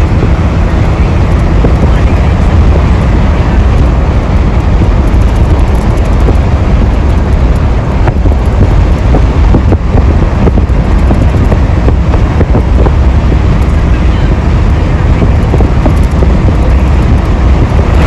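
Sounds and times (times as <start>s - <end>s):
vehicle rumble: 0.0s - 18.0s
wind buffeting microphone: 0.0s - 18.0s.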